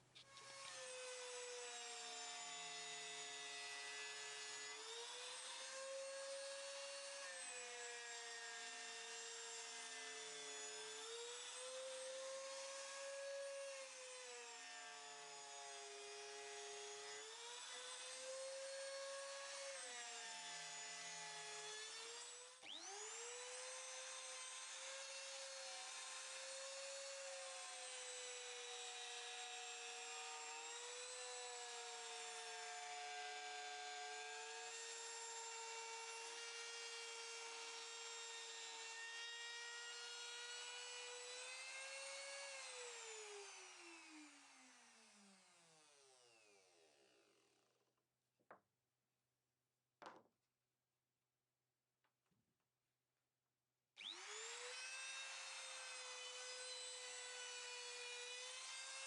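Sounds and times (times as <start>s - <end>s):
electric power tool motor: 0.2s - 47.6s, 54.0s - 59.0s.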